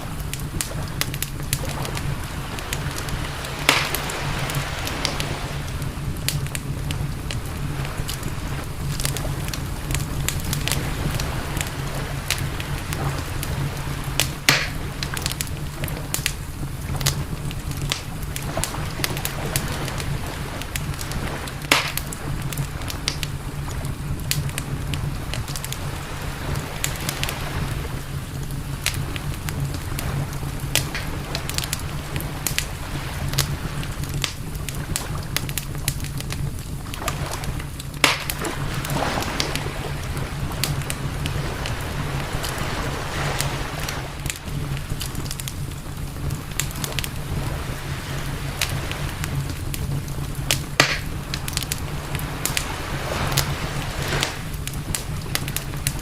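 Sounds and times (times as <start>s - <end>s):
campfire crackling and popping: 0.0s - 56.0s
low rumble: 0.0s - 56.0s.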